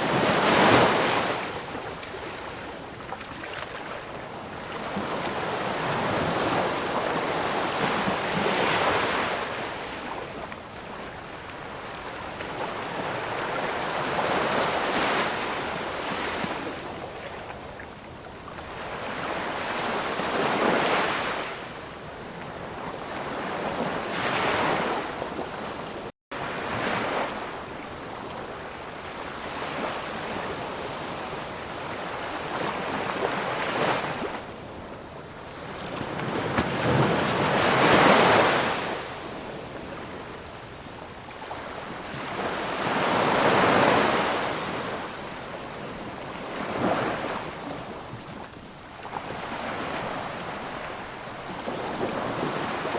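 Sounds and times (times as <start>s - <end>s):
ocean surf waves: 0.0s - 25.8s, 26.4s - 52.9s.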